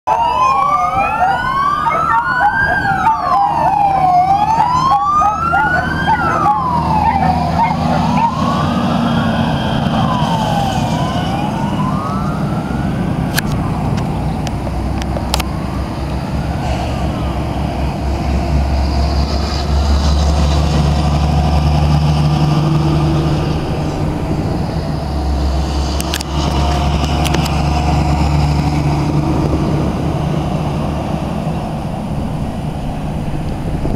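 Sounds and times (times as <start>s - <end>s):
emergency vehicle siren wailing: 0.1s - 33.9s
heavy trucks passing: 0.1s - 33.9s.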